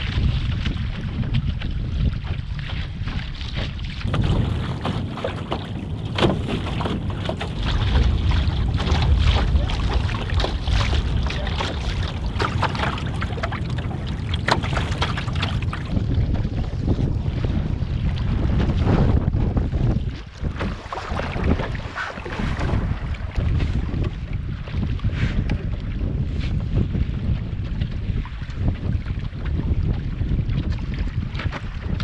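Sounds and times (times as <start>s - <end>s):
water slapping against canoe hull: 0.0s - 32.0s
wind rumble on microphone: 0.0s - 32.0s.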